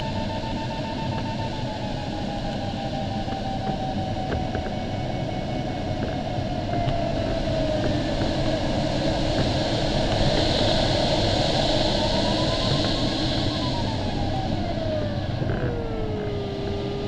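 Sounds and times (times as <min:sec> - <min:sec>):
airflow rushing in cockpit: 0:00.0 - 0:17.0.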